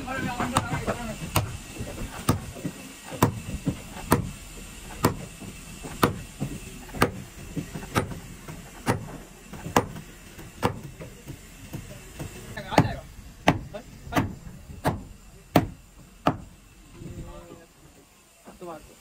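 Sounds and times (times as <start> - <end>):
hammer knocking on wood: 0.2 - 16.5.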